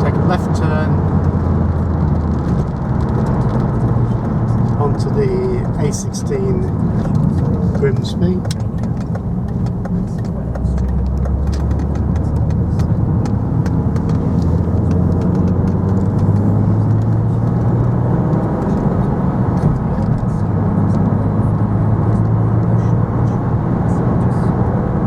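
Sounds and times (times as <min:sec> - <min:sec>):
car engine hum: 0:00.0 - 0:25.0
tyre noise: 0:00.0 - 0:25.0.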